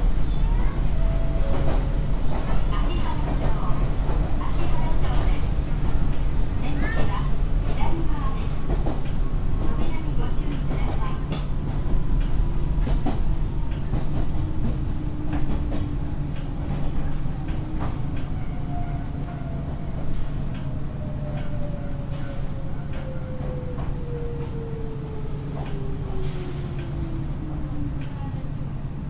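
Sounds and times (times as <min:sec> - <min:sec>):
rail joint clicks: 0:00.8 - 0:28.7.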